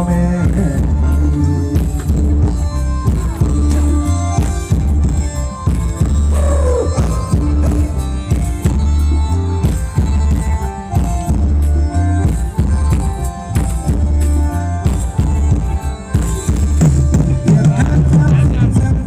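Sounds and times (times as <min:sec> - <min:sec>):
heavy repeating bass line: 0:00.0 - 0:19.0
live band dance music: 0:00.0 - 0:19.0
steady drum beat: 0:00.0 - 0:19.0.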